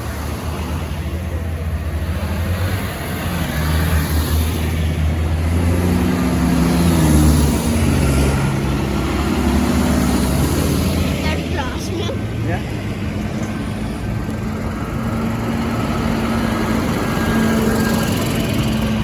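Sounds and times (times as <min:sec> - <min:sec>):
tractor diesel engines passing: 0:00.0 - 0:19.0.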